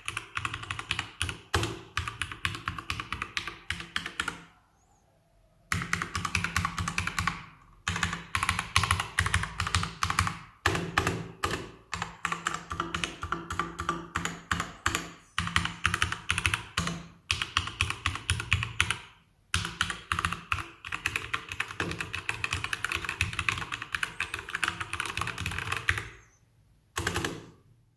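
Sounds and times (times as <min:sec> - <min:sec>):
typing on mechanical keyboard: 0:00.0 - 0:04.4, 0:05.7 - 0:26.2, 0:27.0 - 0:27.5.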